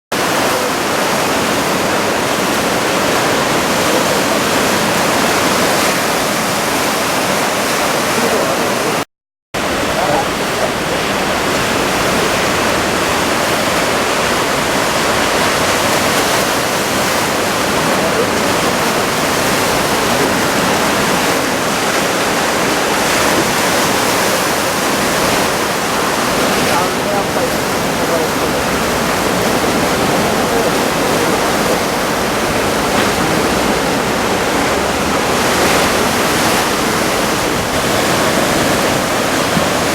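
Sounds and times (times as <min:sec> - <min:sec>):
surf breaking in strong wind: 0:00.1 - 0:09.0, 0:09.6 - 0:39.9.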